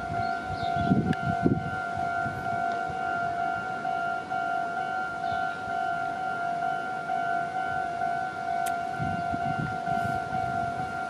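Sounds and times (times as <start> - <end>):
level crossing warning bell ringing: 0.0 - 11.0.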